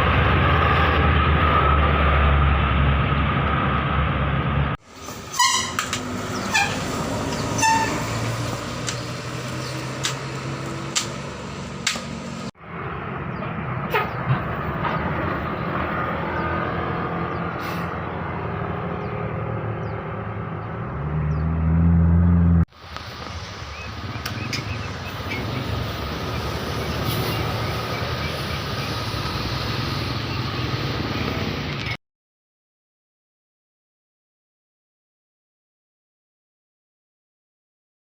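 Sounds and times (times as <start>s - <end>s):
engine and road noise: 0.0s - 32.0s
heavy engine rumble: 0.0s - 32.0s.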